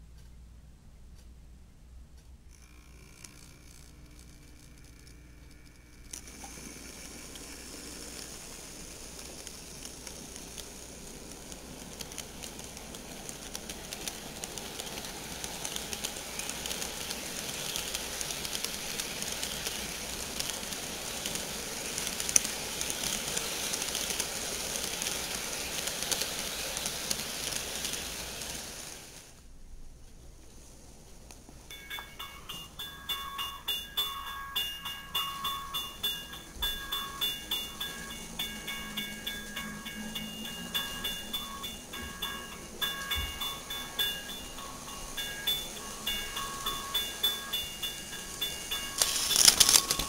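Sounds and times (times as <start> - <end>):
rapid clicks of train wheels: 2.2 - 29.4, 31.3 - 50.0
model train wheels on rails: 2.5 - 50.0.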